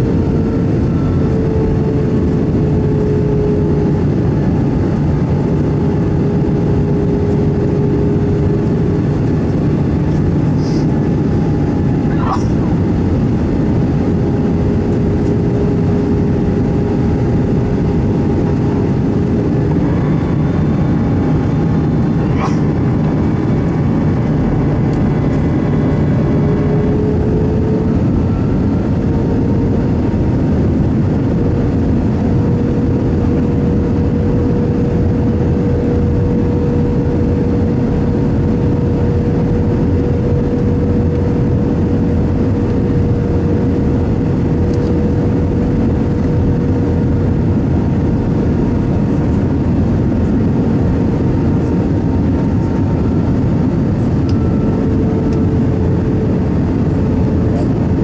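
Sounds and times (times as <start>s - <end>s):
airliner cabin engine drone: 0.0s - 58.0s.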